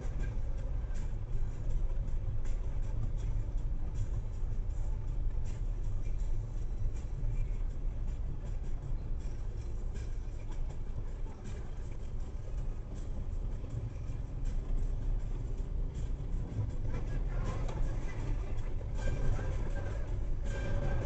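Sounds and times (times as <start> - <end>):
car driving rumble: 0.0 - 21.0.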